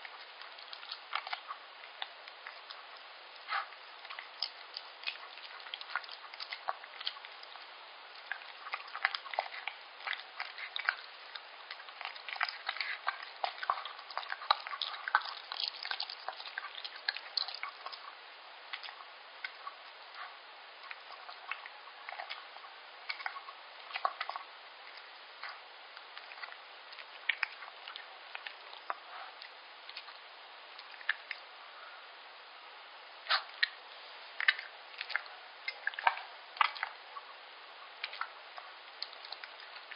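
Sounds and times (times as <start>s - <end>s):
dog licking and chewing: 0.0s - 31.5s, 33.2s - 39.9s.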